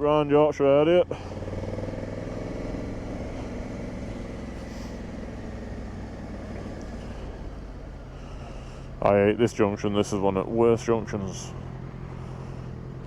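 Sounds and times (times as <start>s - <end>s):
wind and road noise: 0.0s - 13.0s
motorcycle engine running: 1.1s - 13.0s.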